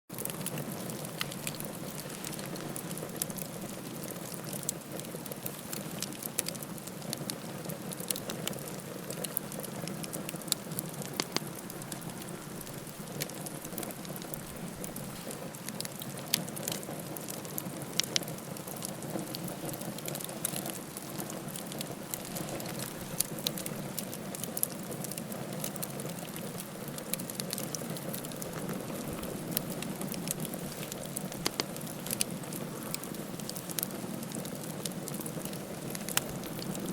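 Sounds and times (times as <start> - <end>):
burning wood crackling and popping: 0.1 - 36.9
campfire flames rushing: 0.1 - 36.9.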